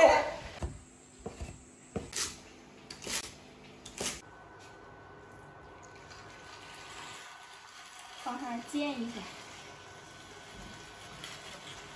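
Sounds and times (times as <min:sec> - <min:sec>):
low background hum: 0:00.0 - 0:11.9.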